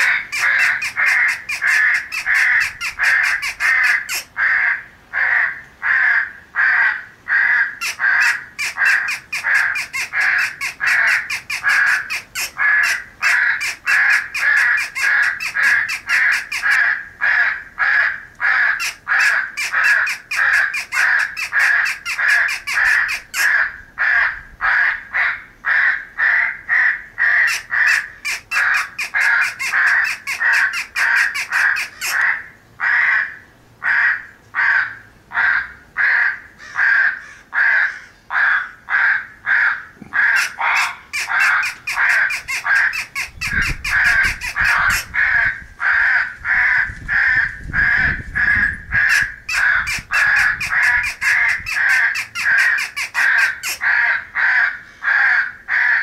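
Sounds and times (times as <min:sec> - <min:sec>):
crows cawing: 0:00.0 - 0:56.0.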